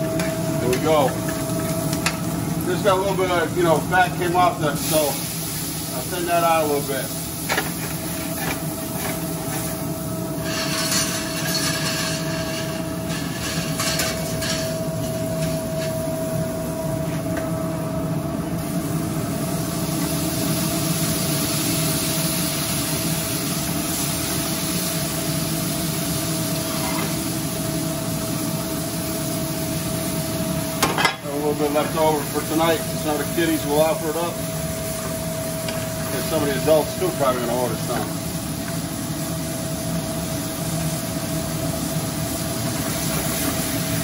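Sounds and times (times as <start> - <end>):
sauce sizzling hiss: 0.0 - 15.2, 18.4 - 44.0
food sizzling in a pan: 0.0 - 15.7, 18.6 - 44.0
mechanical hum and rumble: 0.0 - 44.0.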